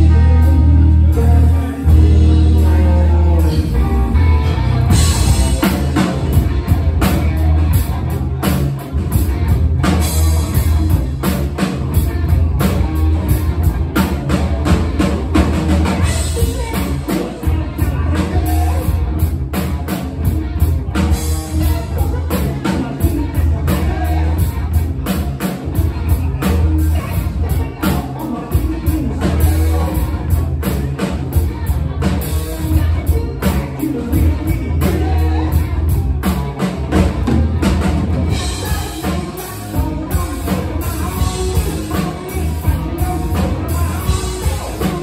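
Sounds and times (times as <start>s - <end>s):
bass guitar: 0.0s - 45.0s
drum kit beat: 0.0s - 45.0s
electric guitar: 0.0s - 45.0s.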